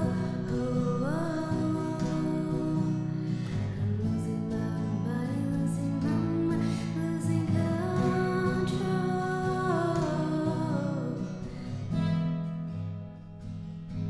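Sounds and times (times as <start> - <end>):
woman singing: 0.0 - 12.0
strummed acoustic guitar: 0.0 - 14.0.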